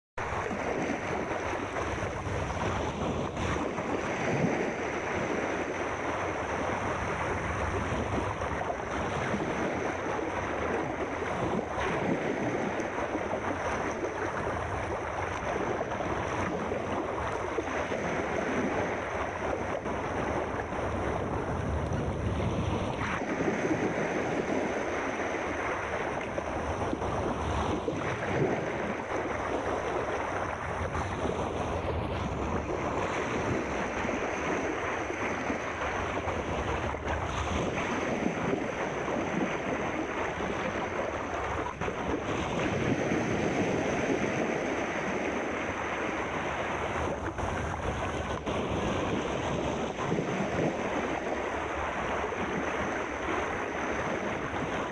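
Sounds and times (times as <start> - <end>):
waves washing: 0.2 - 54.9.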